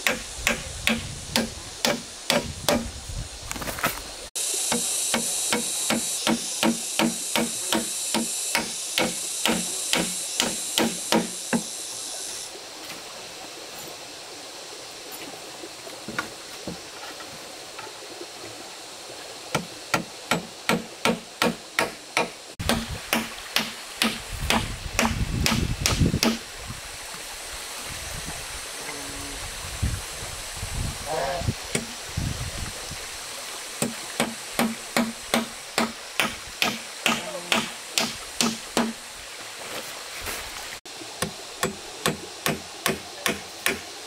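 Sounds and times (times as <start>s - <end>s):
stream rushing: 0.0s - 44.0s.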